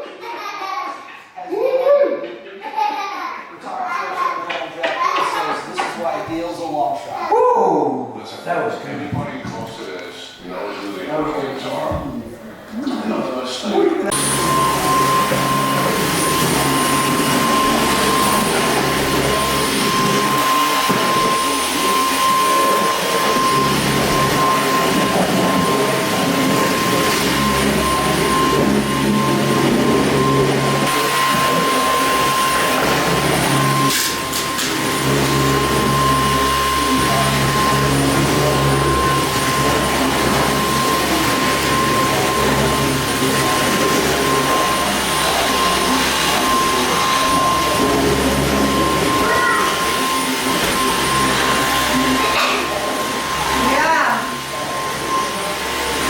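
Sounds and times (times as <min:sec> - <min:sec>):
vacuum cleaner running: 0:04.5 - 0:56.0.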